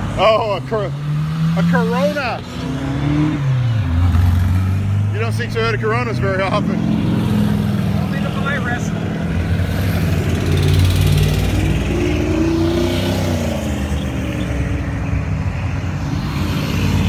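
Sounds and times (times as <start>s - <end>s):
cars driving past rumbling: 0.0s - 17.0s.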